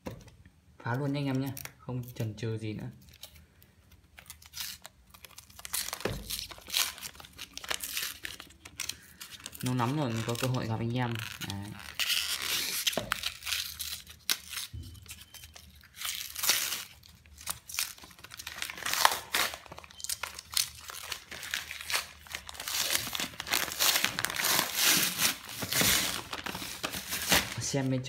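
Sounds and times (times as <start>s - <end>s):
paper wrapping torn and crumpled: 3.0s - 28.0s.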